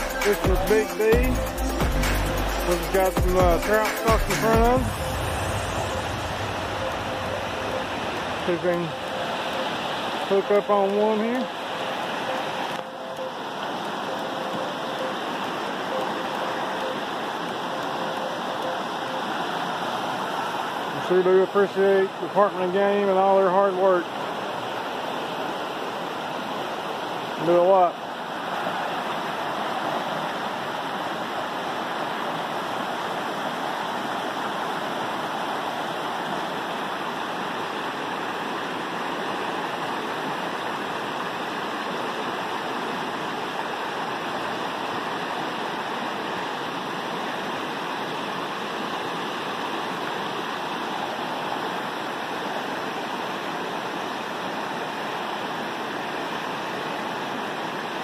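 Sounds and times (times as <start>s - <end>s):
creek rushing over boulders: 0.0s - 58.0s.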